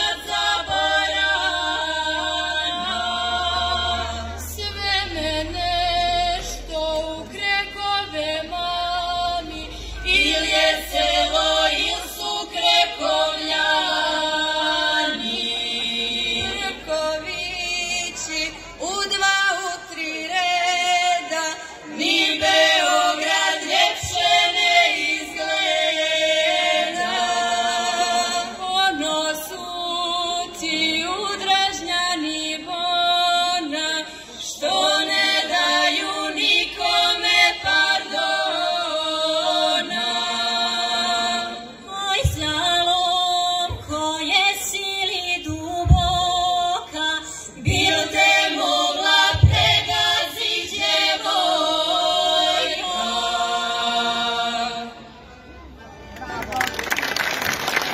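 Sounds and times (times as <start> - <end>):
women's choir singing unaccompanied: 0.0 - 55.2.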